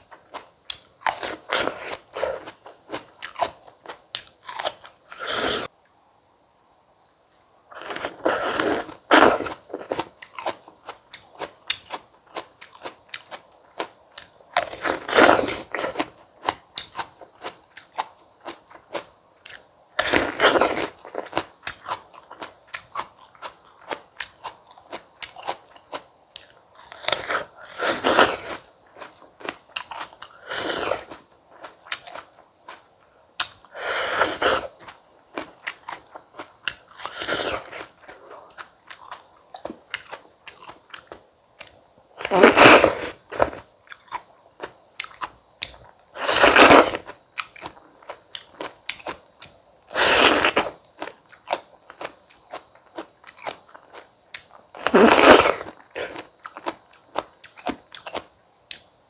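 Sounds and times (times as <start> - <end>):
crunchy fruit bites: 0.3 - 5.7, 7.7 - 32.8, 33.4 - 58.9.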